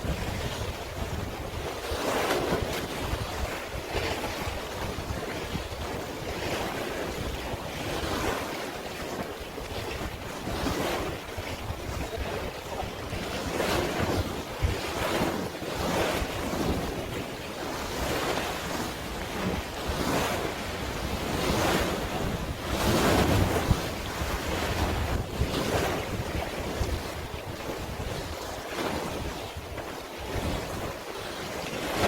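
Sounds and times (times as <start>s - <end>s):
waves washing in: 0.0s - 32.0s
wind buffeting microphone: 0.0s - 32.0s.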